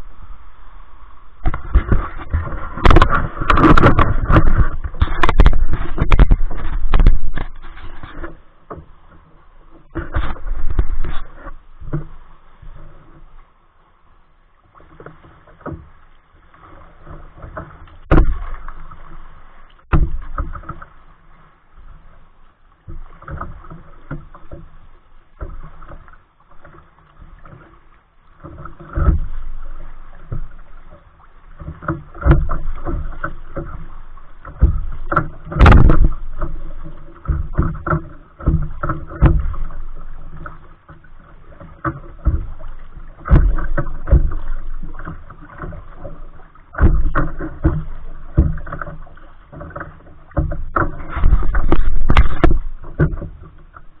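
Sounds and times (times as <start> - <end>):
paddle water splashing: 0.0 - 54.0.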